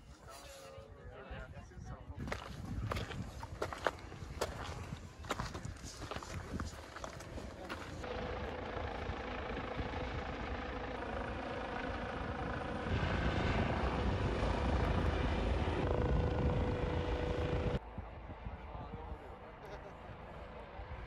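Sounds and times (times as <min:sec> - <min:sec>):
mechanical drone with low rumble: 0:02.3 - 0:21.0.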